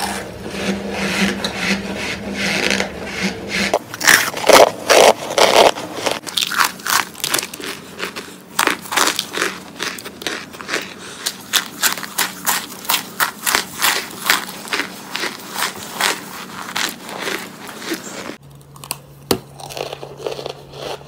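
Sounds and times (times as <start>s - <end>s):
crisp crunches of chewing: 3.8s - 21.0s.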